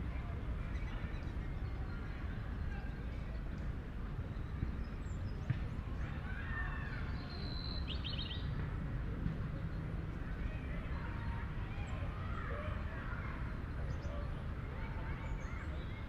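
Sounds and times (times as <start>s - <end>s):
faint distant voices: 0.0s - 16.0s.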